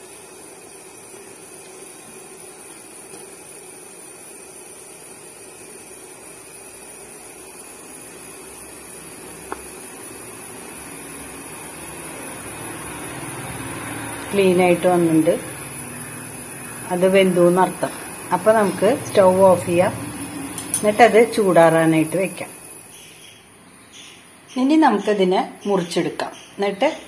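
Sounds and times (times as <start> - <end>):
steamer hissing: 0.0 - 25.3.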